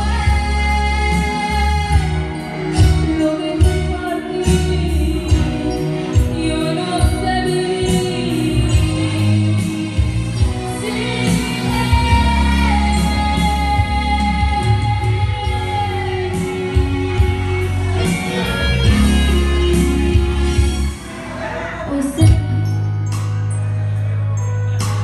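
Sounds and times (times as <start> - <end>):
woman singing into a microphone: 0.0 - 20.5, 21.7 - 23.2
amplified backing music: 0.0 - 25.0.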